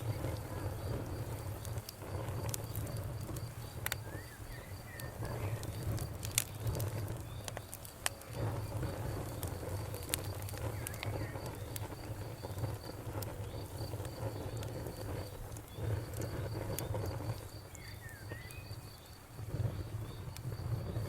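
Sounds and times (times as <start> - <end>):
bonfire crackling and popping: 0.0 - 21.0
crickets chirping: 0.0 - 21.0.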